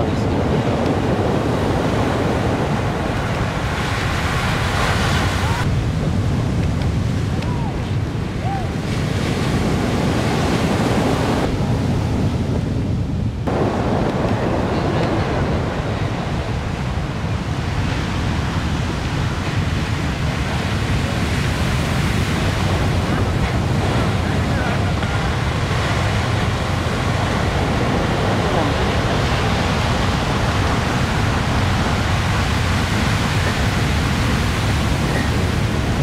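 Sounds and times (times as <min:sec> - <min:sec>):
ocean surf breaking: 0:00.0 - 0:36.0
wind buffeting microphone: 0:00.0 - 0:36.0.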